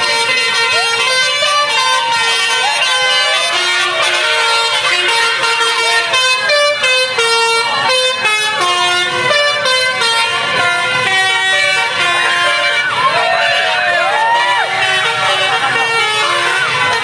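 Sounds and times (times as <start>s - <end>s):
bus air horn melody: 0.0s - 17.0s.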